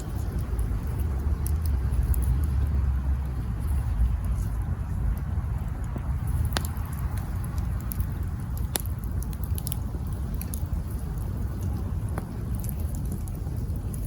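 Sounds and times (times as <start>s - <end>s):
campfire crackling: 0.0s - 14.0s
fire popping: 0.0s - 14.0s
low steady rumble: 0.0s - 14.0s.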